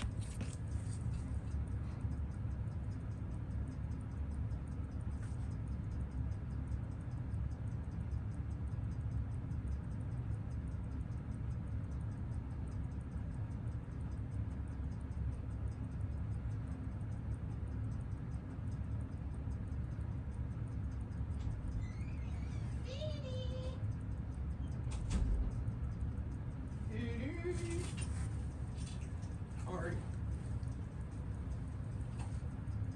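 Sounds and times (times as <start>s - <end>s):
low hum: 0.0s - 32.9s
watch movement ticking: 0.0s - 32.9s.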